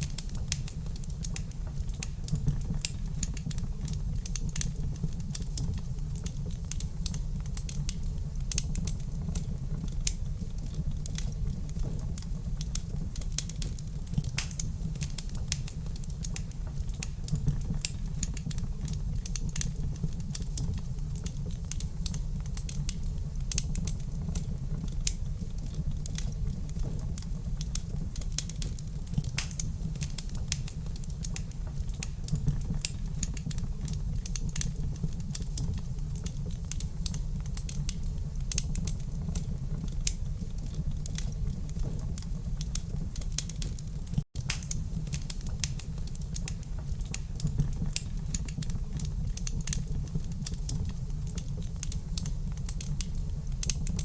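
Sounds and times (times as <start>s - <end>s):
low rumble of burning fire: 0.0s - 54.0s
wood fire crackling: 0.0s - 54.0s.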